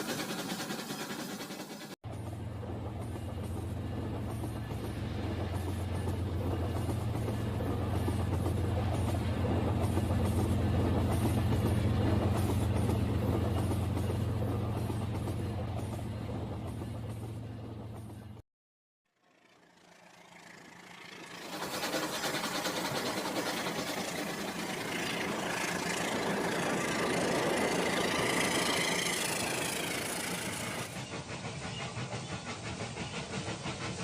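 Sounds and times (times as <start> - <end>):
train wheels clicking on track: 0.0 - 18.4, 19.8 - 34.0.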